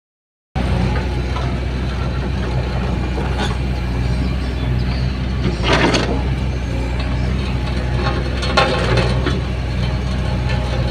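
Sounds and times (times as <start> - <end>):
excavator diesel engine running: 0.6 - 10.9.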